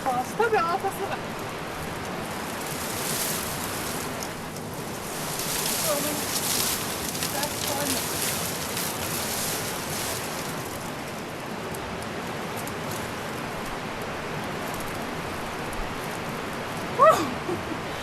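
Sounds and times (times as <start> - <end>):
fast-flowing river rushing: 0.0 - 18.0.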